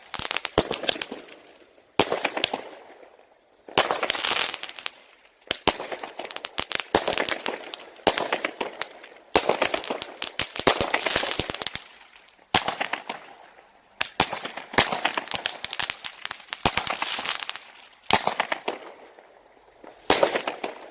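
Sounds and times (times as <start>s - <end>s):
firework bangs with crackling: 0.0s - 20.9s.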